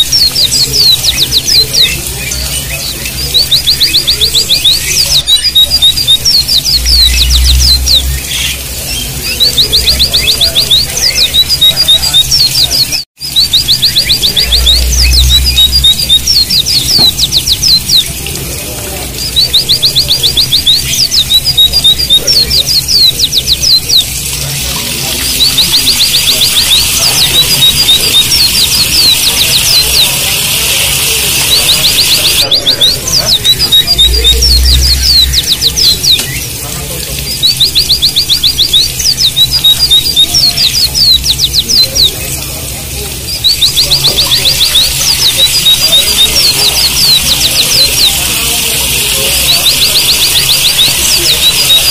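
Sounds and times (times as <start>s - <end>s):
small birds singing: 0.0s - 51.9s.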